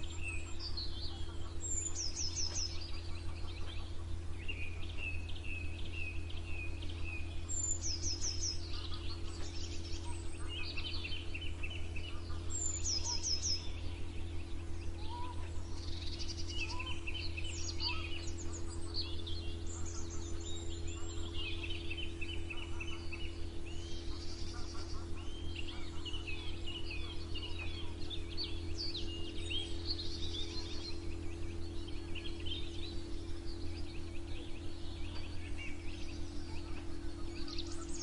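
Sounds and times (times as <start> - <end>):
songbirds chirping and trilling: 0.0 - 38.0
steady low hum: 0.0 - 38.0.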